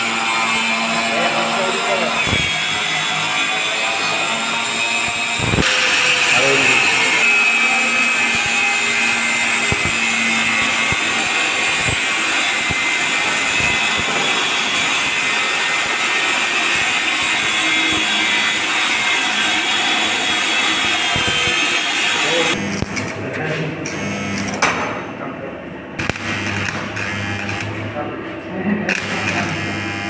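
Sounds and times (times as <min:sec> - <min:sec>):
angle grinder cutting metal: 0:00.0 - 0:23.2, 0:26.0 - 0:27.9, 0:28.9 - 0:30.0.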